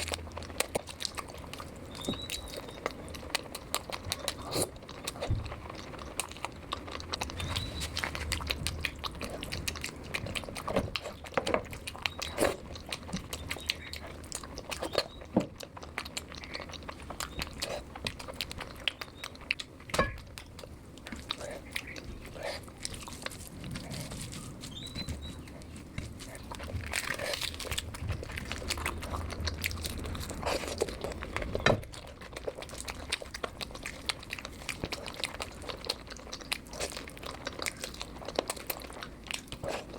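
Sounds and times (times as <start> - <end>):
person chewing and lip smacking: 0.0 - 39.9.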